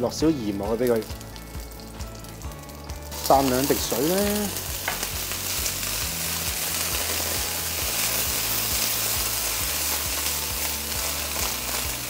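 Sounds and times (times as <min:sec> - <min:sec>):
water hissing in hot oil: 0:00.0 - 0:12.0
asparagus sizzling in hot oil: 0:00.1 - 0:12.0.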